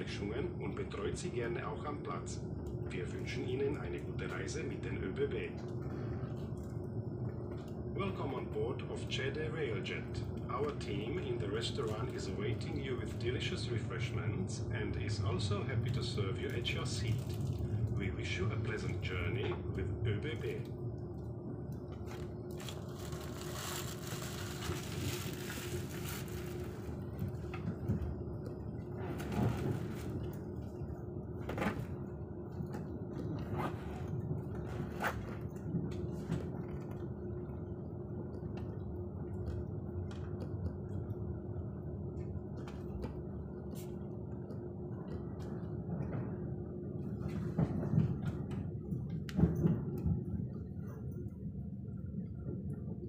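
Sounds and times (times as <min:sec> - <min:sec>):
train rumble inside coach: 0:00.0 - 0:53.0.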